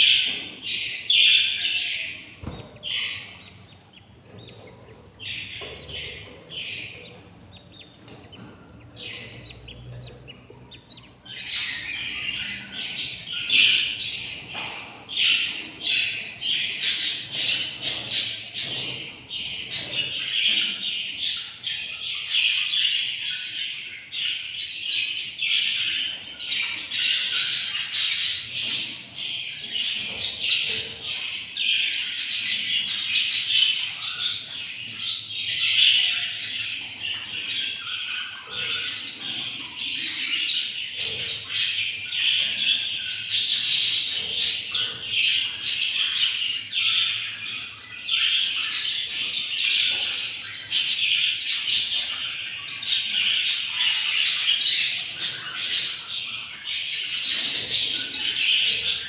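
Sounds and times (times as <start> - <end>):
budgerigar chicks cheeping: 0.0 - 59.0.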